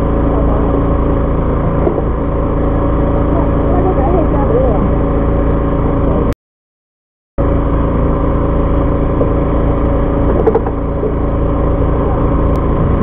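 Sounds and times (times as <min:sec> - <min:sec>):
boat engine humming: 0:00.0 - 0:06.4, 0:07.4 - 0:13.0.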